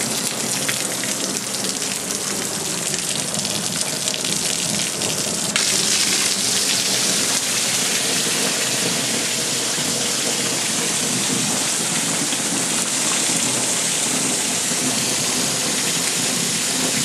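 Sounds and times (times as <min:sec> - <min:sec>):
heavy rain on a plastic roof: 0:00.0 - 0:17.0
water splashing onto benches: 0:00.0 - 0:17.0.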